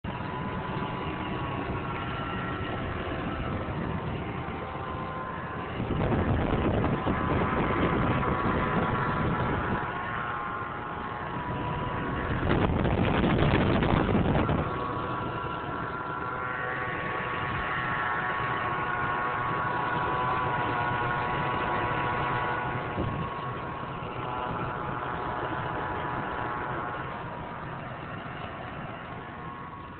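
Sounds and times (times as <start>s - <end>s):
car engine running: 0.0s - 29.9s
high-pitched engine whine: 0.0s - 29.9s
rush of noise: 0.0s - 29.9s.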